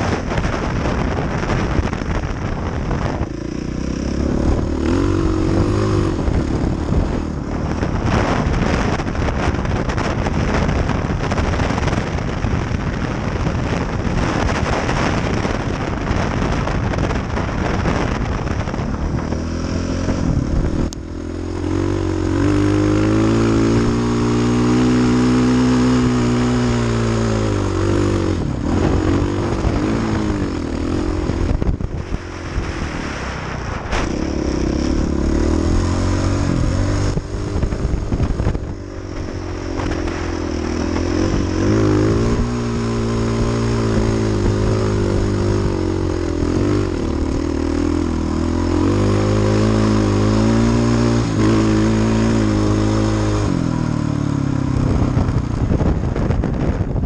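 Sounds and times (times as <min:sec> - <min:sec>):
dirt bike engine revving: 0:00.0 - 0:55.4.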